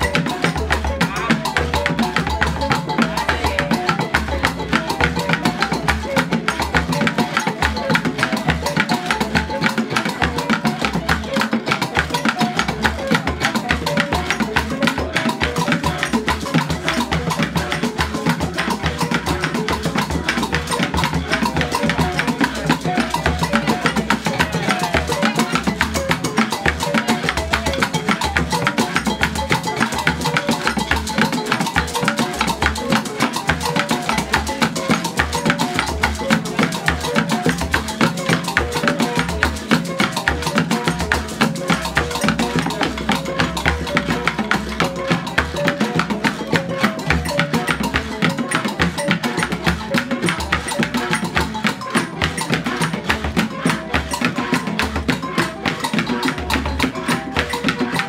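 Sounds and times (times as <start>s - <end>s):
percussion clicking and rattling: 0.0s - 58.0s.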